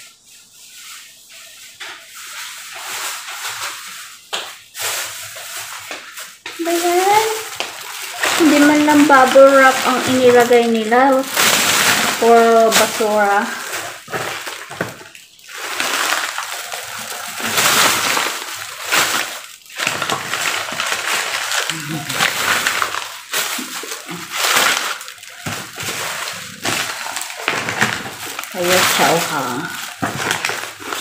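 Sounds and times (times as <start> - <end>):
paper and bubble wrap crinkling: 0.0 - 31.0.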